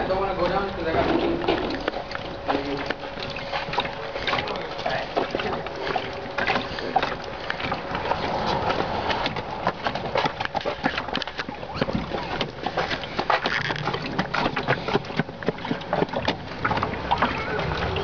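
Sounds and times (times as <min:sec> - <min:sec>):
canoe knocks and rattles: 0:00.0 - 0:18.0.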